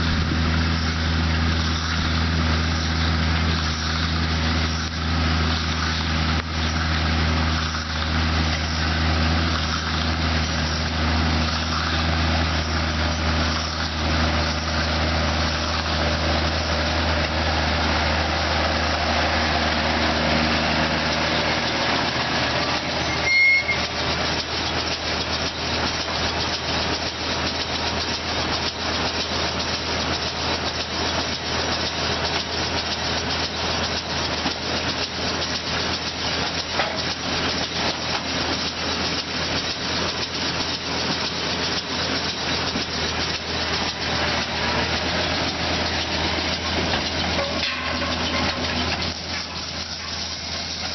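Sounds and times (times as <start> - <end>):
high-pitched squeal: 0.0 - 28.3, 35.5 - 50.9
tractor engine hum: 0.0 - 50.9
mechanical rattle: 0.6 - 50.9.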